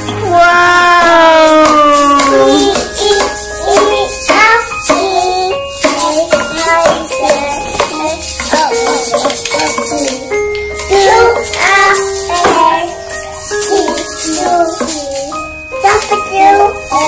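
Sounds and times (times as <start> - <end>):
children singing: 0.0 - 17.0
maracas and rattle drum: 0.0 - 17.0.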